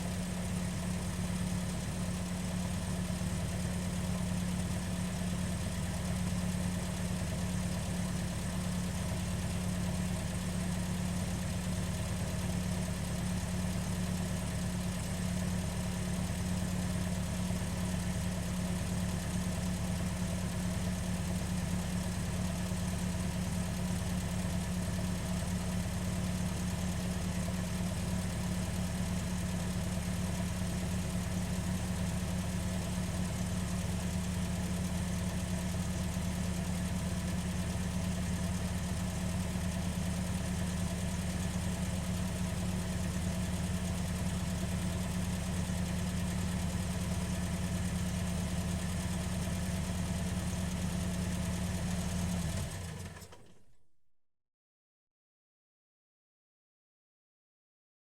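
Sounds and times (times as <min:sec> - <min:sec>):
car engine idling: 0:00.1 - 0:53.0.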